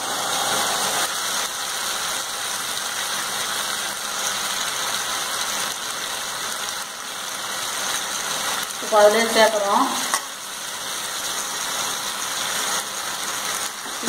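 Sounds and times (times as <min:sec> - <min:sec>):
chicken sizzling in pan: 0:00.0 - 0:14.0.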